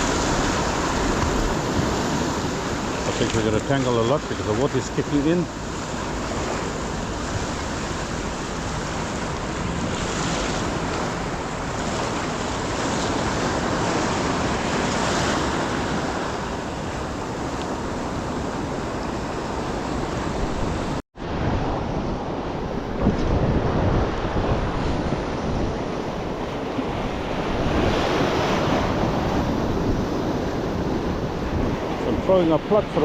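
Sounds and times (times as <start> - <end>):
ocean surf washing onto beach: 0.0 - 33.0
wind buffeting microphone: 0.0 - 33.0.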